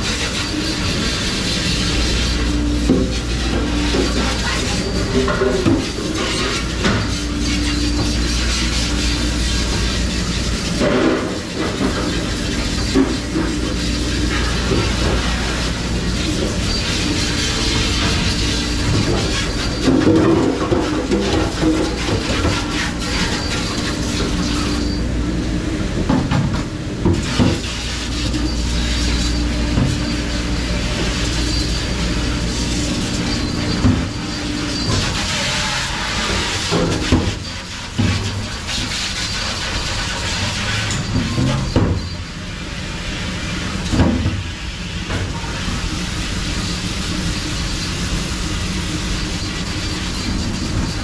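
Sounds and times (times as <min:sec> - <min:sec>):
mechanical running hum: 0:00.0 - 0:51.0.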